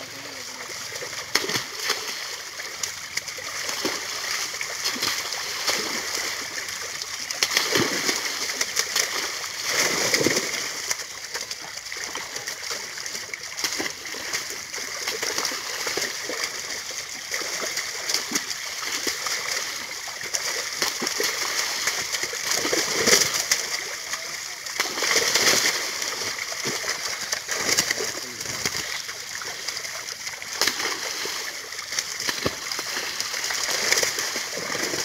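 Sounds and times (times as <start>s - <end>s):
fish thrashing and splashing: 0.0s - 35.0s.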